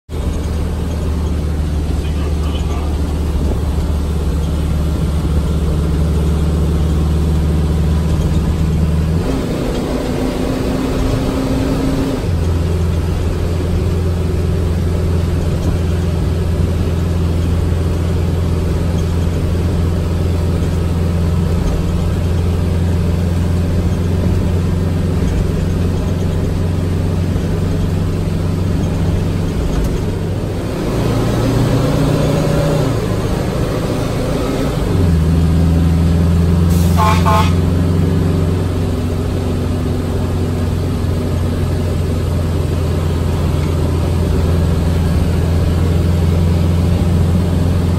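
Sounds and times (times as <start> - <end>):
fire engine running inside cab: 0.1 - 47.9.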